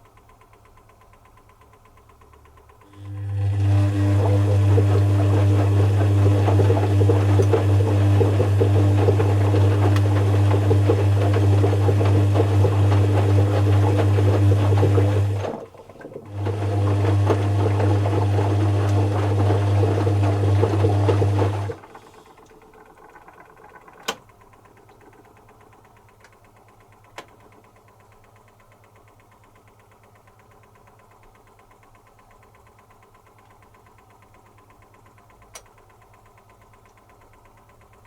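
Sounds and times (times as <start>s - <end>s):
washing machine humming and churning: 0.0s - 38.0s.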